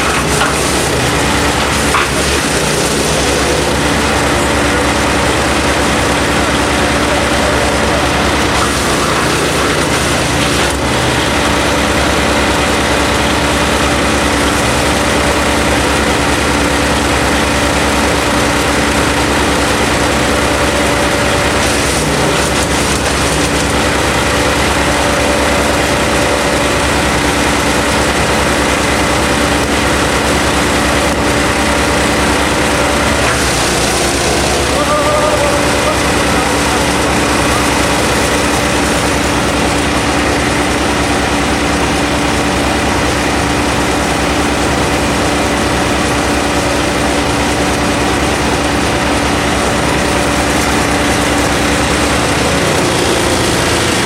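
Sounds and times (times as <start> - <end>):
wood chipper running: 0.0 - 54.0.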